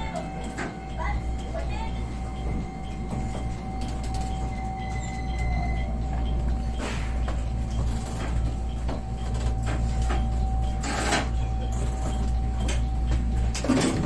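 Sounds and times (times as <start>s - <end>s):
train rumble with whine: 0.0s - 14.0s.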